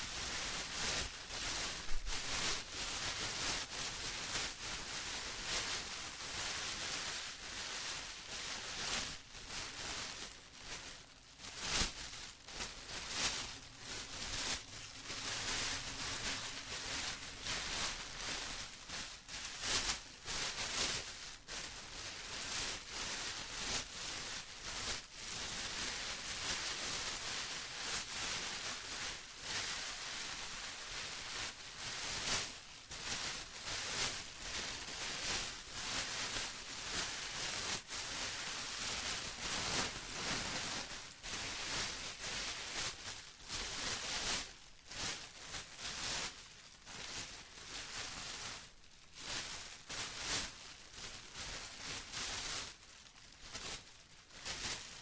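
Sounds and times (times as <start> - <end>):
plastic rustling and crinkling: 0.0 - 55.0.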